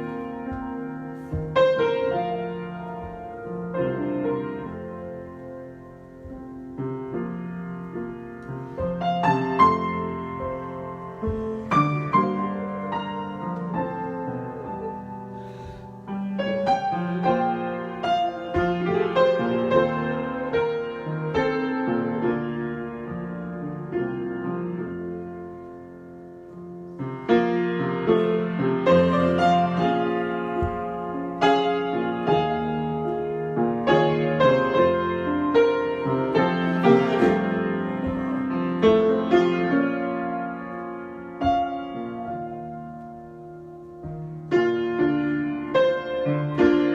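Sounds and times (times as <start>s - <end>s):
solo piano playing: 0.0s - 46.9s.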